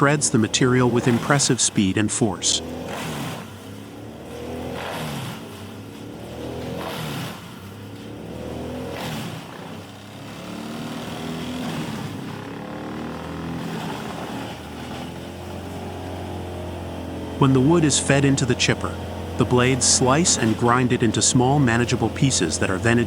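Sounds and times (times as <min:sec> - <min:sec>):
wood chipper engine running: 0:00.0 - 0:23.0
wood crunching and grinding: 0:03.9 - 0:23.0.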